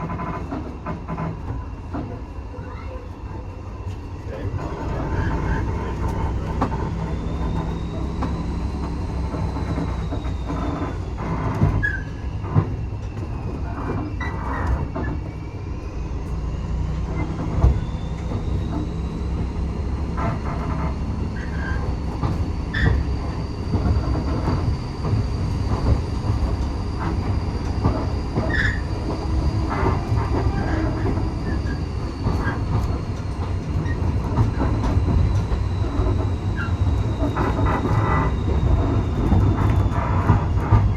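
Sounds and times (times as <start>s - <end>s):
wheels rumbling on rail: 0.0s - 40.9s
track clicks and knocks: 3.8s - 15.4s, 16.2s - 40.9s
wheel squeal: 4.3s - 40.9s.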